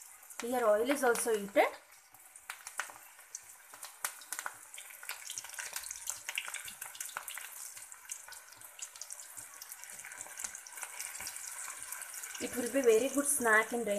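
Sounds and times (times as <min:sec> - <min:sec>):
oil sizzling with crackling pops: 0:00.0 - 0:13.9.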